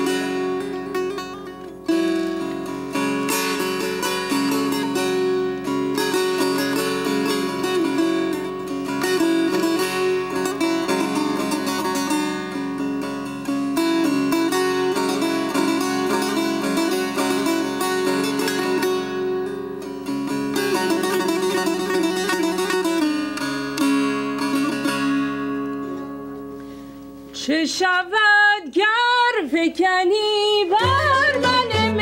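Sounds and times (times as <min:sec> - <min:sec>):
plucked string instruments: 0:00.0 - 0:27.4, 0:30.6 - 0:32.0.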